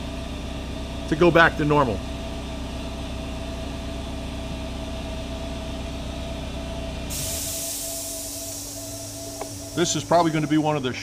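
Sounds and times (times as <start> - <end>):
machining center humming: 0.0 - 11.0.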